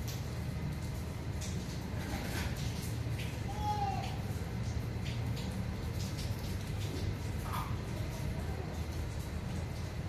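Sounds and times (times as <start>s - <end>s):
drip-like ticks: 0.0s - 10.0s
light rain: 0.0s - 10.0s.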